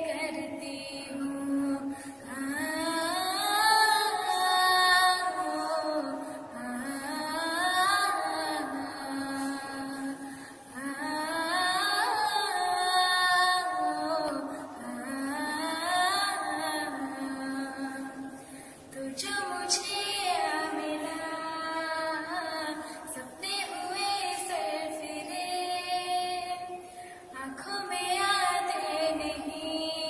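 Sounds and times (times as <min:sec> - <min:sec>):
woman singing: 0:00.0 - 0:30.0.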